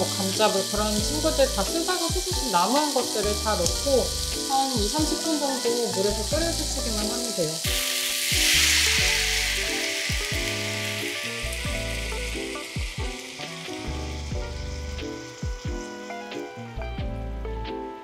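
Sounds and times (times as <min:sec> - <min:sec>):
stock sizzling in a hot frying pan: 0:00.0 - 0:18.0.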